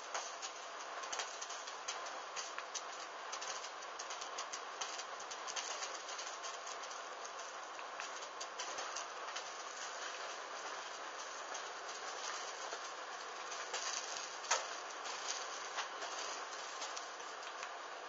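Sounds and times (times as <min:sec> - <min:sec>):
fire crackling and popping: 0:00.0 - 0:18.0
flames hissing: 0:00.0 - 0:18.0.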